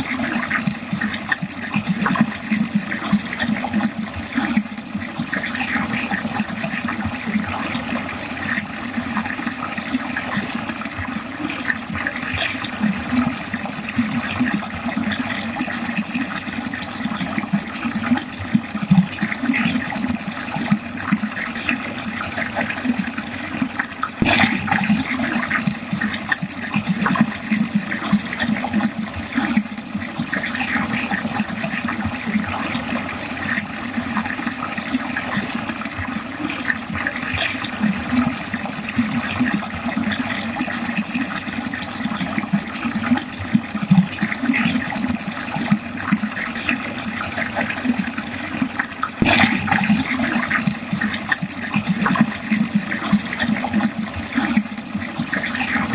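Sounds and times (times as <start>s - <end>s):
water gurgling down a drain: 0.0s - 55.9s.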